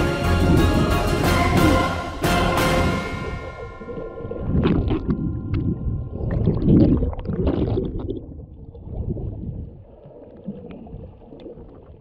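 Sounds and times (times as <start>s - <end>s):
underwater rumbling and bubbling: 0.3s - 12.0s.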